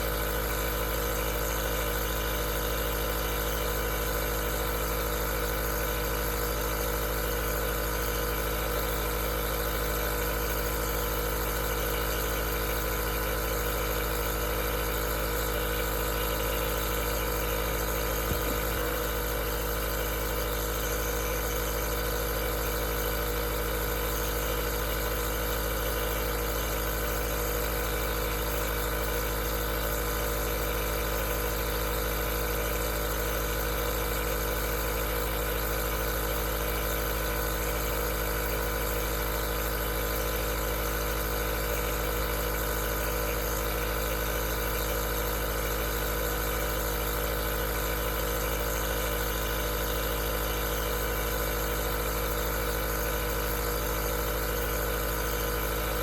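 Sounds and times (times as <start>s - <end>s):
compressor motor hum: 0.0s - 56.0s.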